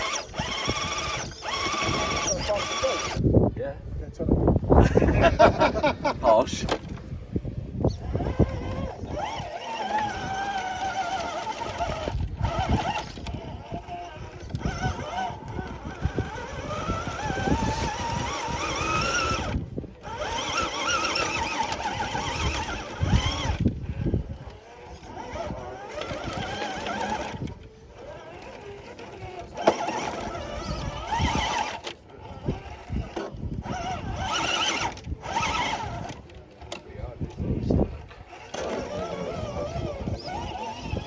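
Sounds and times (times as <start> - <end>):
electric motor and gears whining: 0.0 - 41.0.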